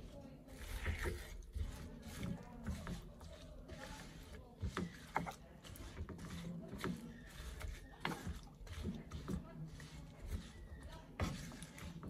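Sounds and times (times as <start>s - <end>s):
vegetables shuffling in wok: 0.0s - 12.0s.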